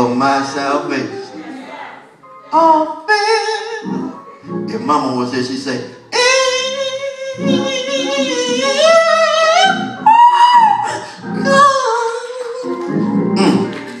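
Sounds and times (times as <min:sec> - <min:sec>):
person singing gospel: 0:00.0 - 0:14.0
instruments playing: 0:00.1 - 0:14.0.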